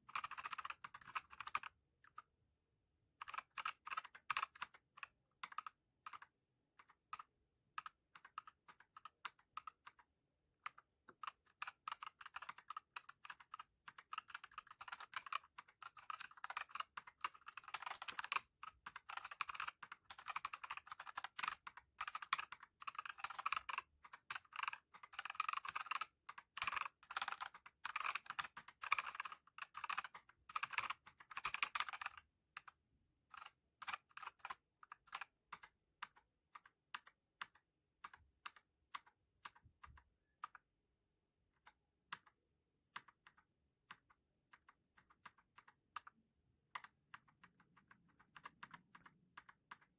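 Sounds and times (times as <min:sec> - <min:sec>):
typing on mechanical keyboard: 0:00.0 - 0:02.3, 0:03.2 - 0:40.7, 0:41.5 - 0:49.9.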